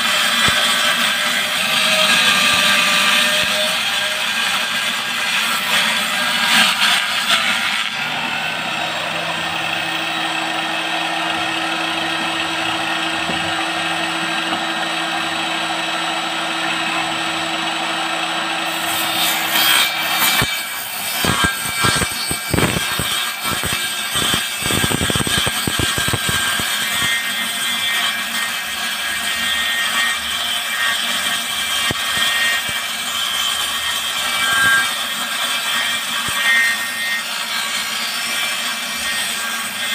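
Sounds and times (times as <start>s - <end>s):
table saw cutting board: 0.0s - 39.9s.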